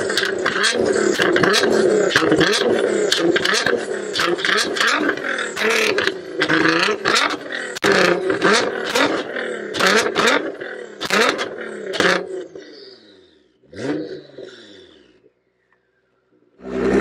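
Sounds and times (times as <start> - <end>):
car engine revving: 0.0 - 15.7, 16.4 - 17.0.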